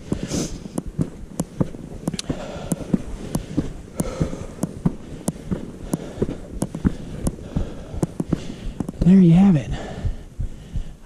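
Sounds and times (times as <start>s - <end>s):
footsteps on rocky trail: 0.0s - 11.0s.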